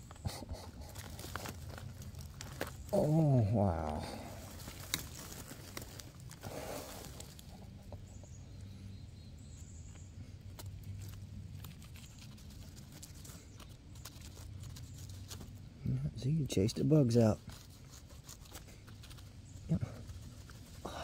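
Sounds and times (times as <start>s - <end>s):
rustling of leaf litter: 0.0s - 8.2s, 9.8s - 15.7s, 16.5s - 21.0s.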